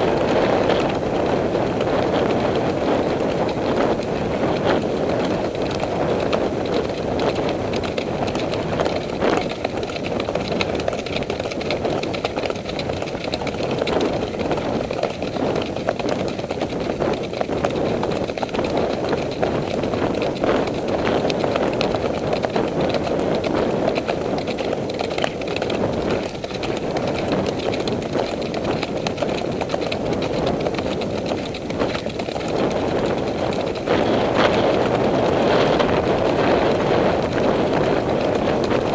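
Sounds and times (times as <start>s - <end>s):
hoofbeats on dirt trail: 0.0s - 38.9s
wind on microphone: 0.0s - 38.9s.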